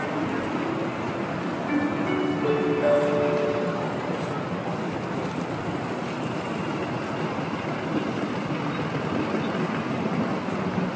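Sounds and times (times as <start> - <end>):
crowd of pedestrians: 0.0 - 10.9
road traffic: 0.0 - 10.9.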